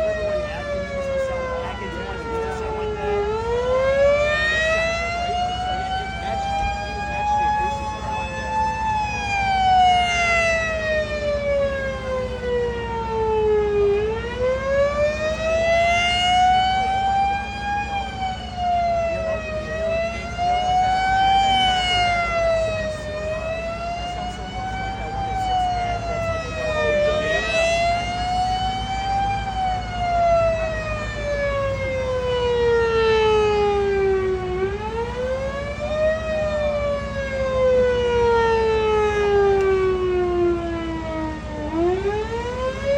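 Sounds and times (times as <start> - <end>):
electromechanical siren wailing: 0.0 - 42.9.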